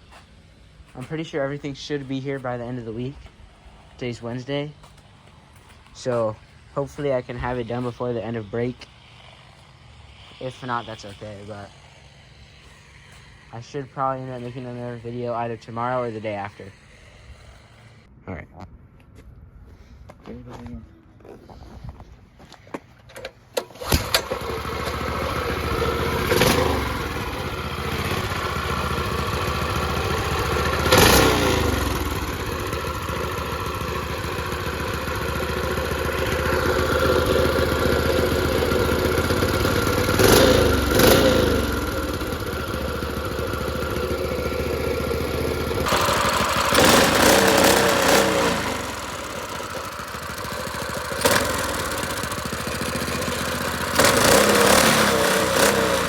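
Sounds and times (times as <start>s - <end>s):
engine revving: 0.0s - 18.1s, 23.6s - 56.0s
minibike engine running: 0.0s - 18.1s, 23.1s - 56.0s.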